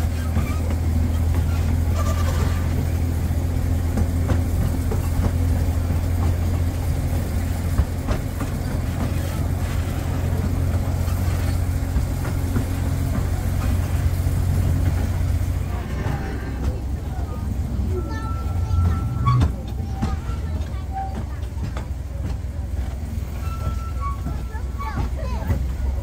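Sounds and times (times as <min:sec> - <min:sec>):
coach rattling: 0:00.0 - 0:26.0
train rumbling: 0:00.0 - 0:26.0
wheels clicking on track: 0:00.0 - 0:26.0.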